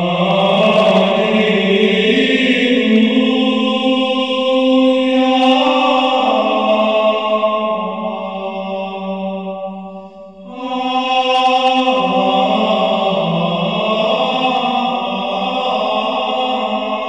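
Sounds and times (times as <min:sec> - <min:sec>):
choir singing a slow chant: 0:00.0 - 0:17.0.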